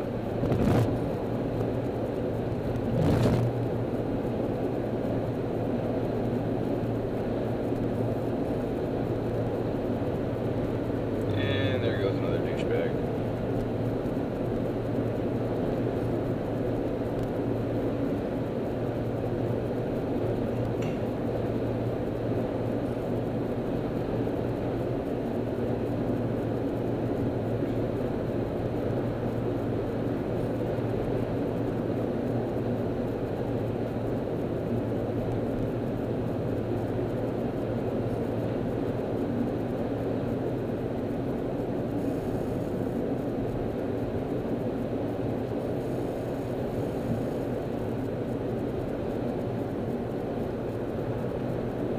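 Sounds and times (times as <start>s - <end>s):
car cabin road and engine drone: 0.0s - 51.9s.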